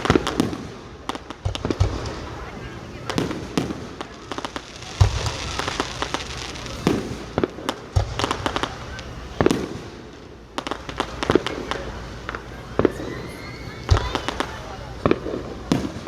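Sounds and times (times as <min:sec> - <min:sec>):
deep firework booms: 0:00.0 - 0:16.0
fireworks bangs and crackles: 0:00.0 - 0:16.0.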